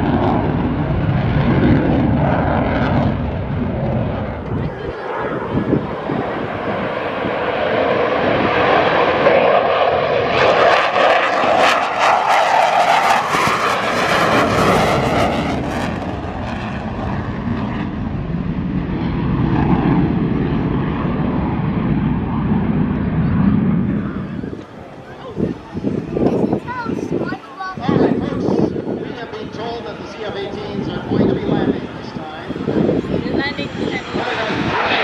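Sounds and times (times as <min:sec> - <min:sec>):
jet passing low: 0:00.0 - 0:35.0.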